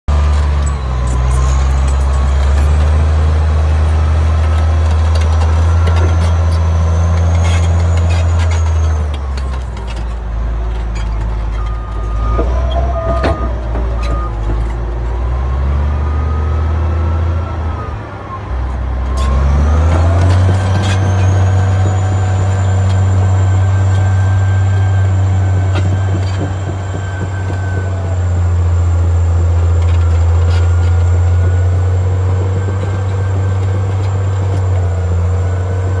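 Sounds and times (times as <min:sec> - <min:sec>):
bulldozer diesel engine under load: 0:00.0 - 0:36.0
track clanks: 0:00.1 - 0:16.2, 0:18.6 - 0:36.0.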